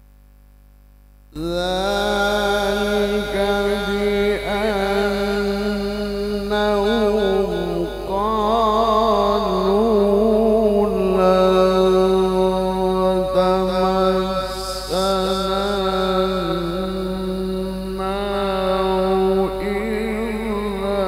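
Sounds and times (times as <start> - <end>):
man reciting melodically: 1.4 - 21.0.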